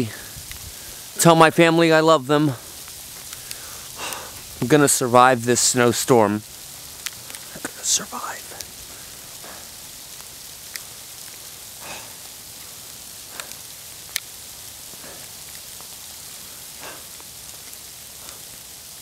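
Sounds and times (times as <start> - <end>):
sharp ticks of sleet: 0.0 - 19.0
sleet falling hiss: 0.0 - 19.0.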